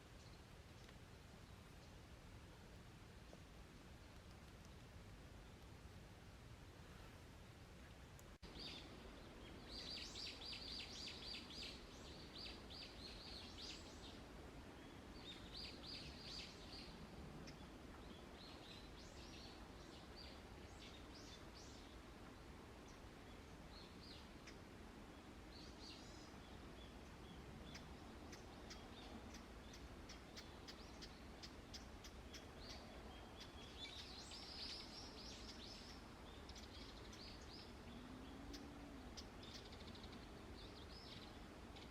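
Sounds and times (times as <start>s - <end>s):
songbirds chirping: 0.0s - 41.9s
steady background hiss: 0.0s - 41.9s.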